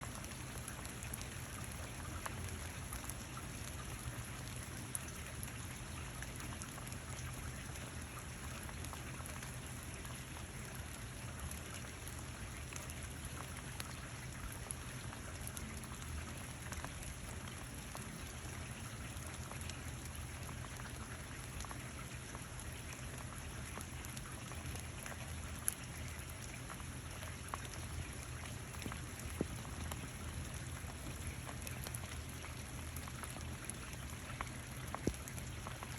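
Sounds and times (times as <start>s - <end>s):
steady rain patter: 0.0s - 35.9s.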